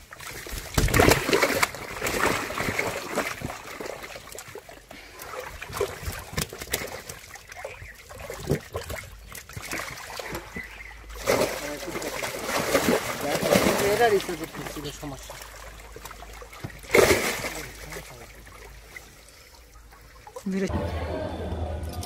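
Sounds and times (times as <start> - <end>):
fish thrashing in water: 0.0 - 20.4.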